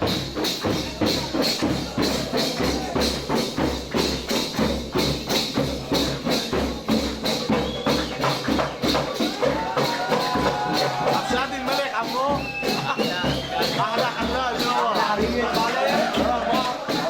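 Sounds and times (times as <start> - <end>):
tambourine jingles: 0.0 - 17.0.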